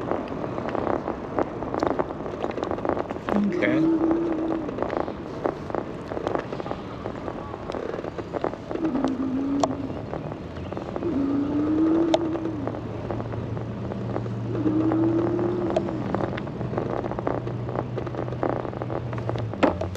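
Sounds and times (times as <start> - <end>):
tyre noise: 0.0 - 19.9
wind noise: 0.0 - 19.9
low hum: 2.9 - 19.9.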